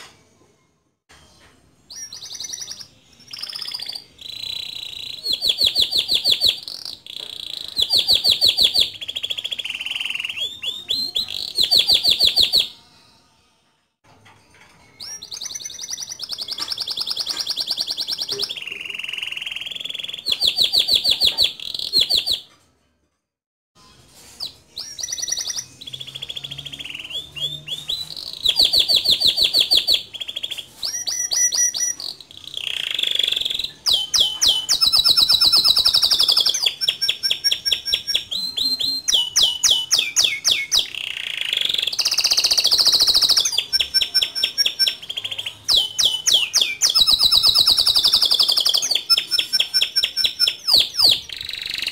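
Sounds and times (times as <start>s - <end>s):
canary singing trills: 1.9s - 12.9s, 14.9s - 22.4s, 24.4s - 51.9s.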